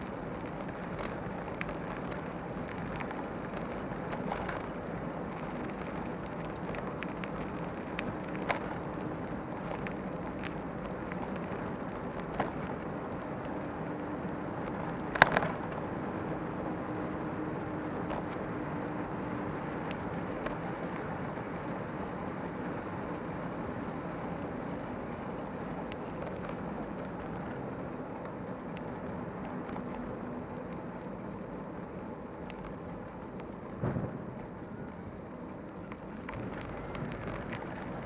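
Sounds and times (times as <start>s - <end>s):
bicycle tyres rolling on rough path: 0.0s - 38.0s
small clicks and rattles: 0.0s - 38.0s.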